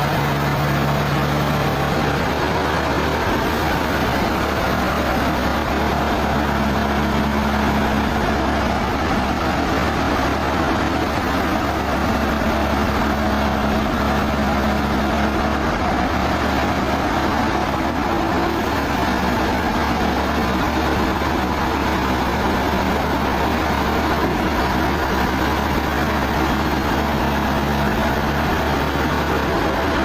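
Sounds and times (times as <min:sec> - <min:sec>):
sawmill machinery drone: 0:00.0 - 0:30.0.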